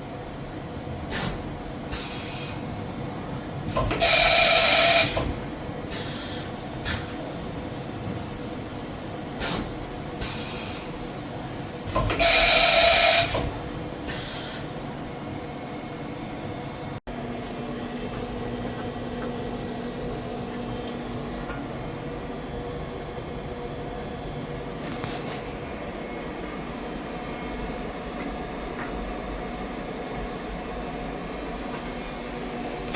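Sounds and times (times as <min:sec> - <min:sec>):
machine steady hum: 0:00.0 - 0:32.9.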